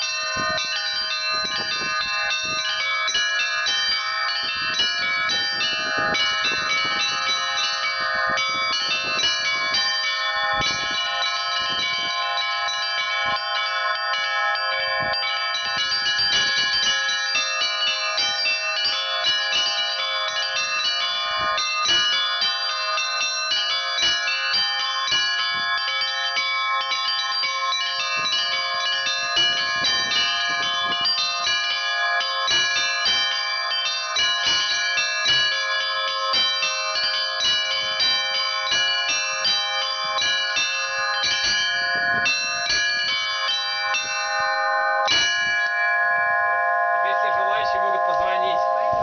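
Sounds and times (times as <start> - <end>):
church bells ringing: 0.0 - 49.0.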